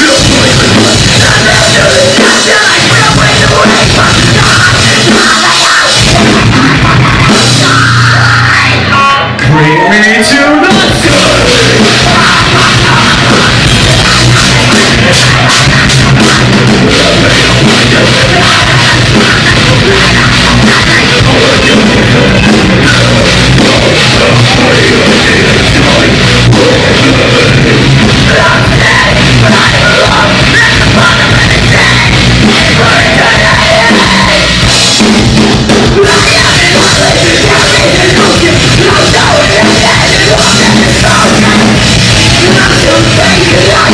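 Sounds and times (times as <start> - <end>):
bass guitar: 0.0 - 43.9
distorted electric guitars: 0.0 - 43.9
pounding drum kit: 0.0 - 43.9.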